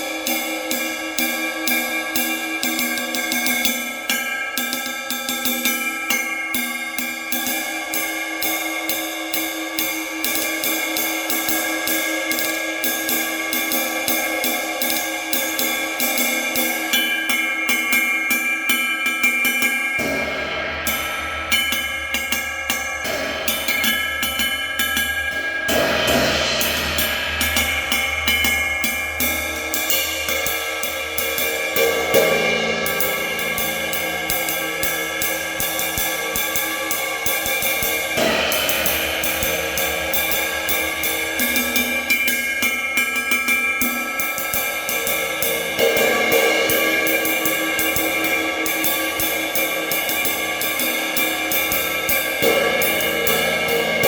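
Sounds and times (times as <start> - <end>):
cymbals played with sticks: 0.0 - 54.0.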